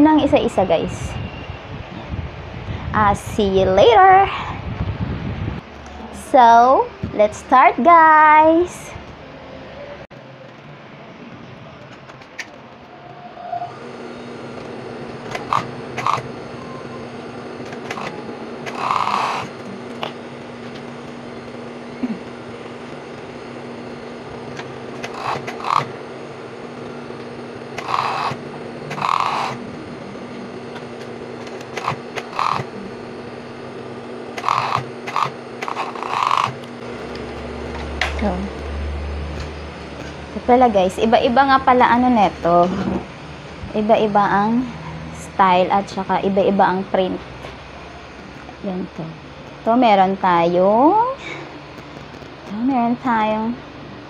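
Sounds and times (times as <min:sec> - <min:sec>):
steady electric hum: 0:00.0 - 0:54.0.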